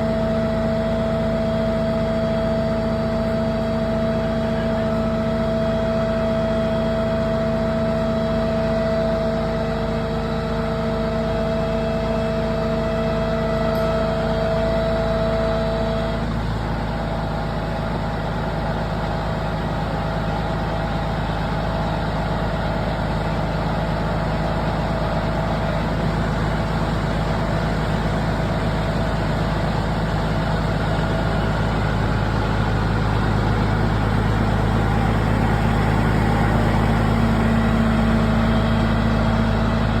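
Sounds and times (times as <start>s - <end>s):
heavy vehicle engine running: 0.0s - 40.0s
steady whine tones: 0.0s - 40.0s.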